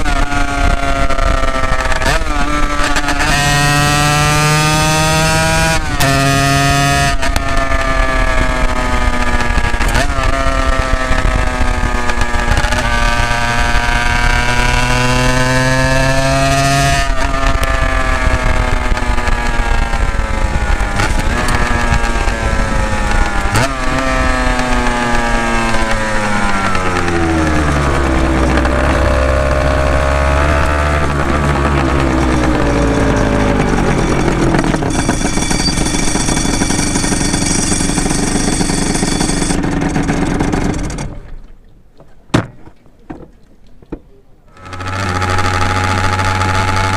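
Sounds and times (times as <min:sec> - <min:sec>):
motorcycle engine revving: 0:00.0 - 0:41.3, 0:44.5 - 0:46.9.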